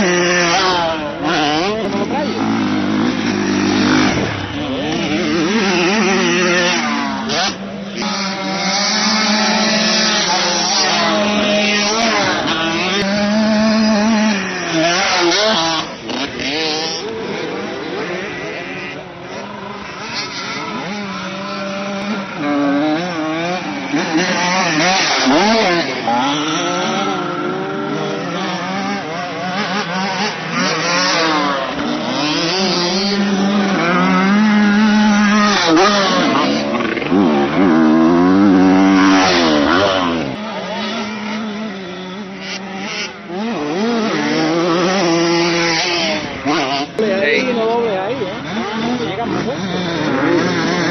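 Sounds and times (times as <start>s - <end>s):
motocross bike engines revving: 0.0s - 50.9s.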